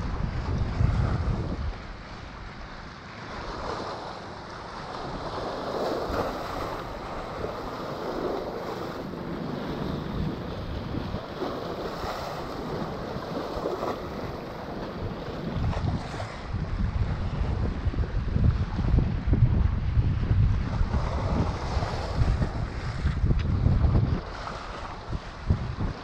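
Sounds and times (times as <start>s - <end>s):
seawater washing against shore: 0.0s - 26.0s
wind on microphone: 0.0s - 26.0s.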